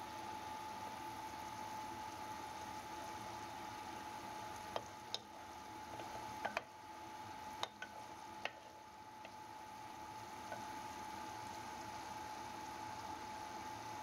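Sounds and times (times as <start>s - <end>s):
food sizzling in oil: 0.1s - 14.0s.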